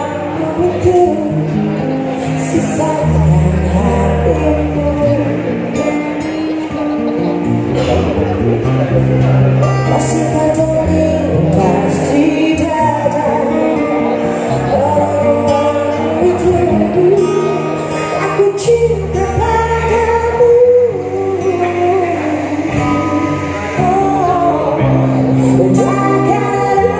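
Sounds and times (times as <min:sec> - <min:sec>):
acoustic guitar: 0:00.0 - 0:26.9
person singing into microphone: 0:00.0 - 0:26.9.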